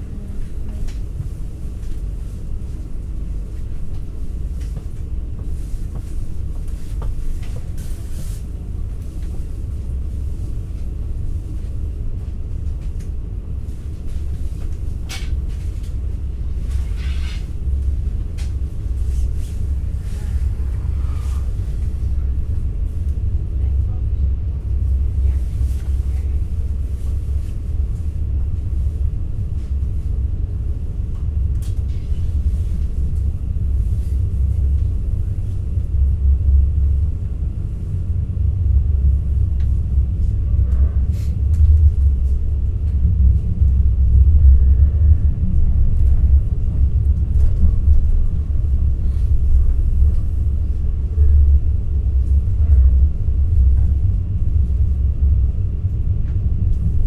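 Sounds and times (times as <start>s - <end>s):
train interior rumble: 0.0s - 57.0s.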